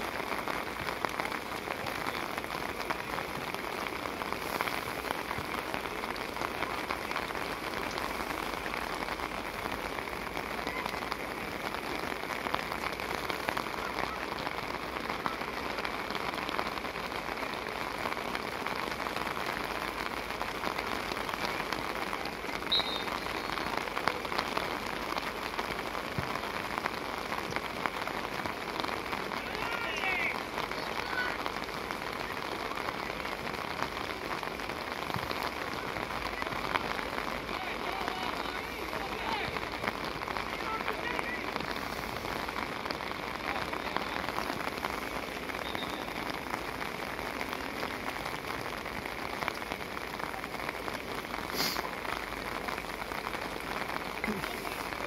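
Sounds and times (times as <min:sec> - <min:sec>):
rain on an umbrella: 0:00.0 - 0:55.0.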